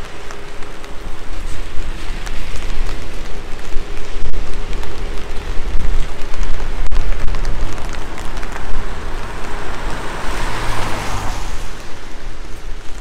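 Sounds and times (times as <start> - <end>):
car engine hum: 0.0 - 13.0
rain on a wet street: 0.0 - 13.0
tyres hissing on wet road: 0.0 - 13.0.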